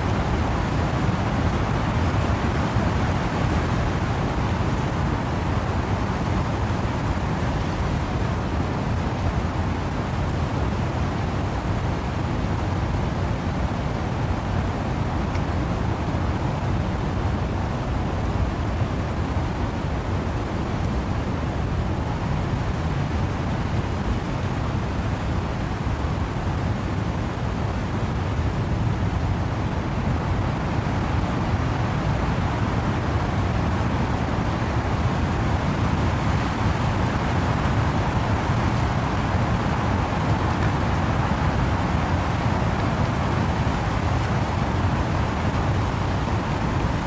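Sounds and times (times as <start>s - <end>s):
wind-driven rain in trees: 0.0s - 47.0s.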